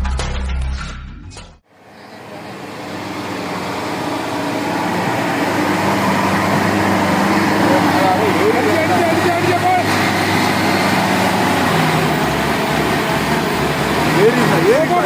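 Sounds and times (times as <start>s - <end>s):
lorry engine running: 1.7s - 15.0s.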